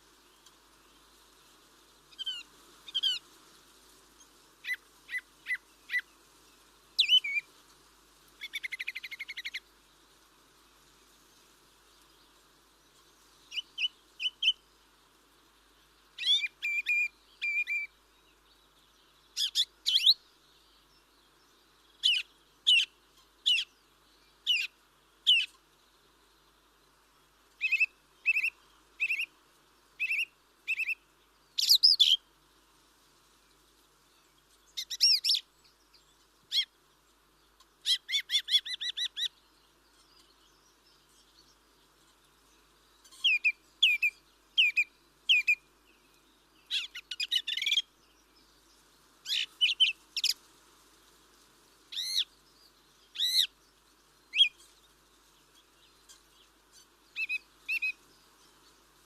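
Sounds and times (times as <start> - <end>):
faint steady hiss: 0.0 - 59.0
birds chirping: 8.4 - 32.2, 33.5 - 50.4, 51.4 - 59.0.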